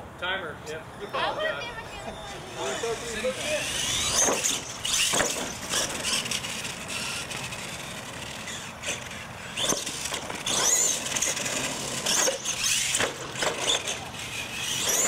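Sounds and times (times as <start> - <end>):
toy truck motor whining: 0.9 - 15.0.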